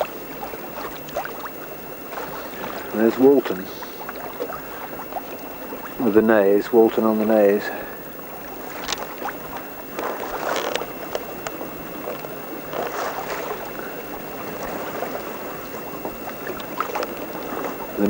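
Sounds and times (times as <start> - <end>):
water swishing along boat hull: 0.0 - 18.0.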